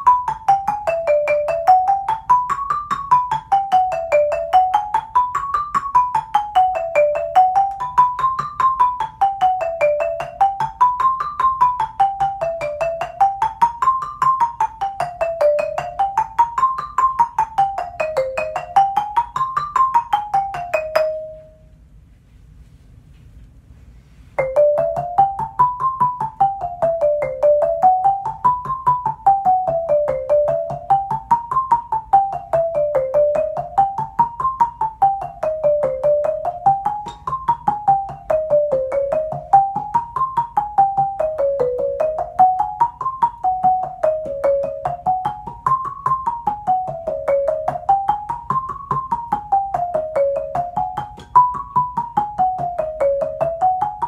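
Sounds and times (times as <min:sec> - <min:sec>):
marimba runs: 0:00.0 - 0:21.7, 0:24.4 - 0:54.0.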